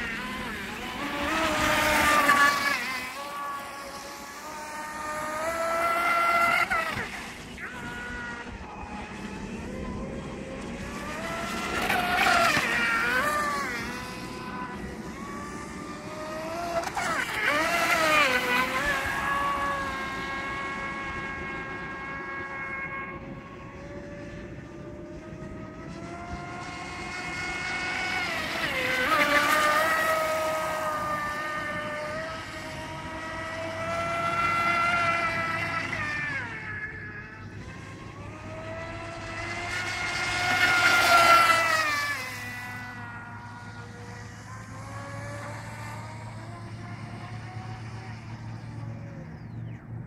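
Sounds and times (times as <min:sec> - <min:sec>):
speedboat electric motor whining: 0:00.0 - 0:50.0.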